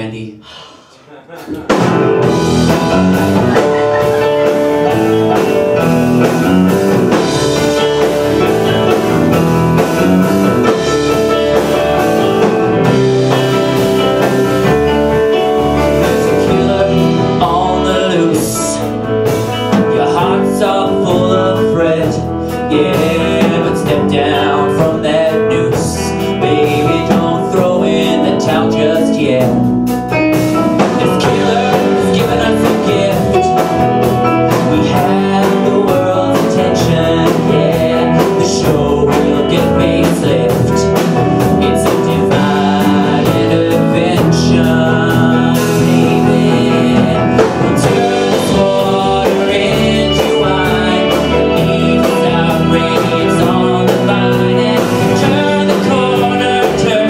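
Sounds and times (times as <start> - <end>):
male lead vocal: 0.0 - 57.0
live rock band playing: 1.5 - 57.0.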